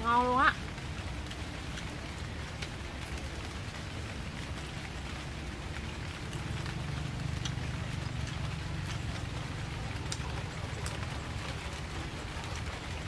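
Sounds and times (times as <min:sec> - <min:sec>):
rain falling: 0:00.0 - 0:13.0
raindrops ticking: 0:00.0 - 0:13.0.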